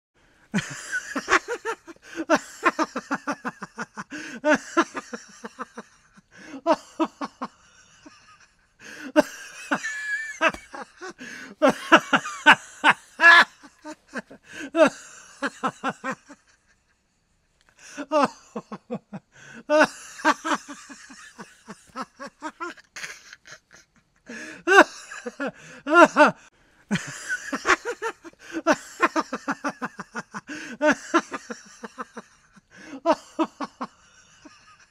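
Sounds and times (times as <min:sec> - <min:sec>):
man laughing hard: 0:00.5 - 0:16.8, 0:17.8 - 0:34.9.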